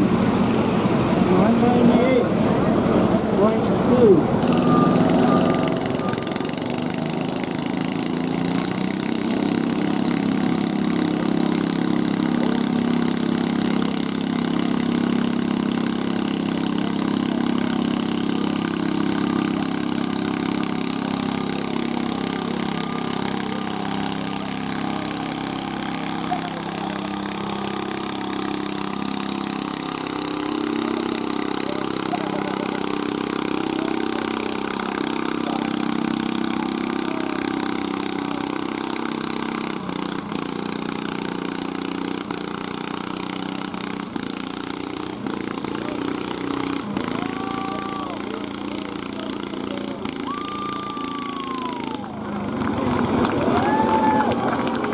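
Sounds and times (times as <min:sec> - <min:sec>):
garden tractor engine running: 0:00.0 - 0:54.9.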